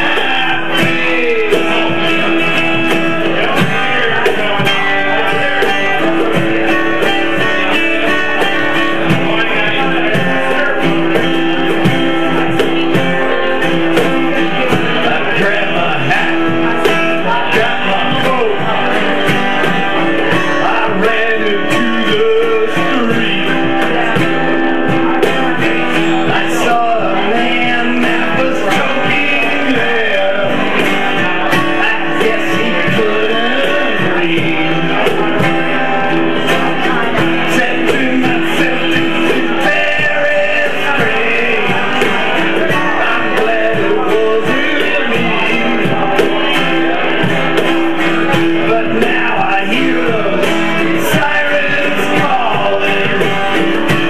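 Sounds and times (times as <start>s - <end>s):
acoustic guitar strumming: 0.0s - 54.0s
man singing into a microphone: 0.0s - 54.0s.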